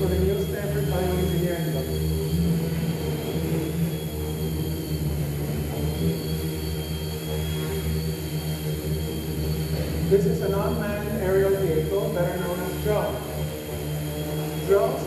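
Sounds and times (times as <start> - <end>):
drone propellers humming: 0.0 - 15.0
faint high whine: 0.0 - 15.0.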